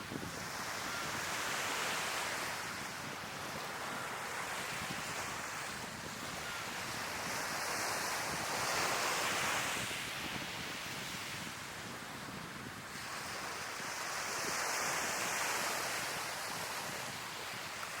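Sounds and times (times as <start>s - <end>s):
sea waves washing ashore: 0.0s - 18.0s
wind noise on microphone: 0.0s - 18.0s.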